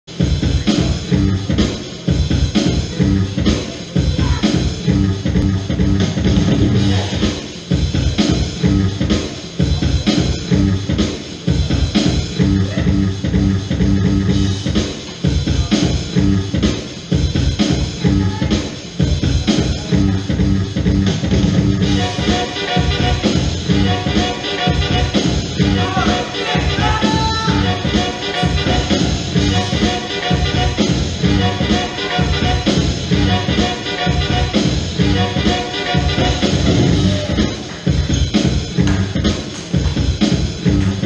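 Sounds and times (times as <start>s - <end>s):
loud band music with drums: 0.1s - 41.0s.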